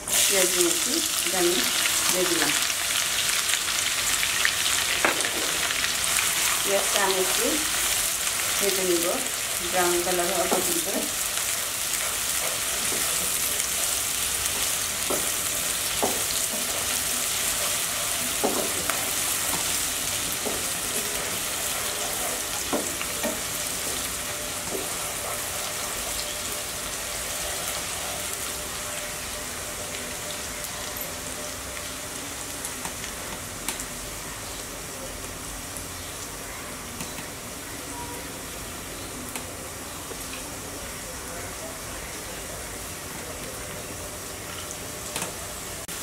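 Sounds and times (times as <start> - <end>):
onions sizzling in hot oil: 0.0 - 46.0.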